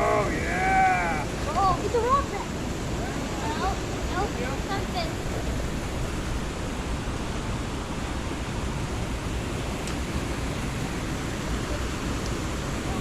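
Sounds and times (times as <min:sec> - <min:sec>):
creek water rushing over waterfall: 0:00.0 - 0:13.0.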